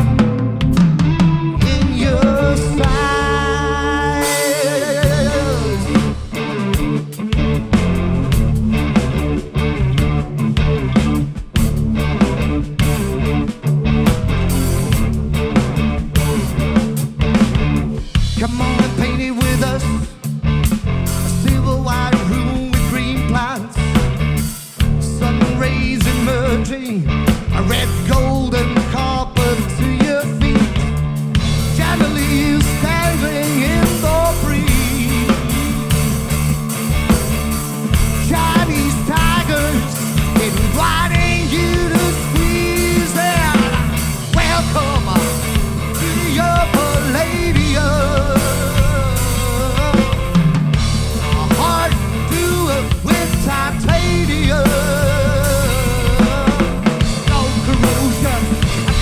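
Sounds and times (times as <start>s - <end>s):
drum kit beat: 0.0s - 59.0s
live rock band playing: 0.0s - 59.0s
wavering guitar lines: 0.0s - 59.0s.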